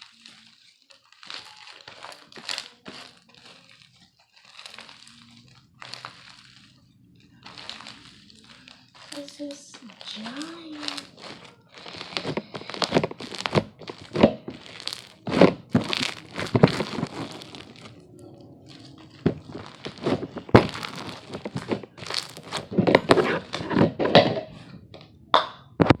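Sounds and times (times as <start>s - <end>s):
slime squeezed by hand crackling: 0.0s - 24.1s.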